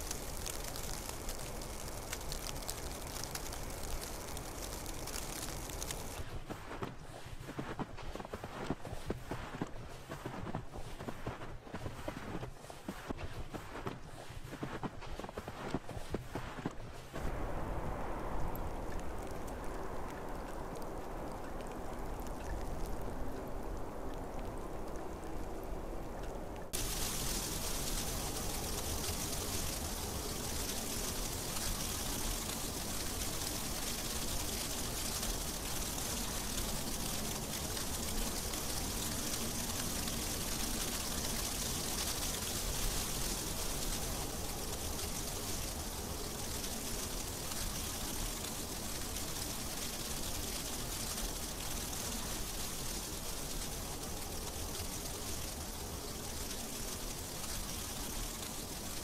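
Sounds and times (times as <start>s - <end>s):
snowfall hiss: 0.0s - 59.0s.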